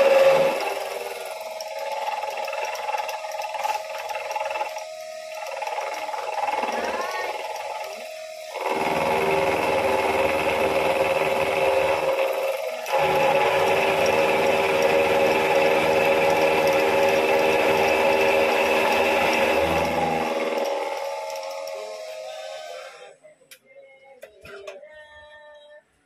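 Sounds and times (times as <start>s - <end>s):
milling machine motor whine: 0.0s - 23.2s.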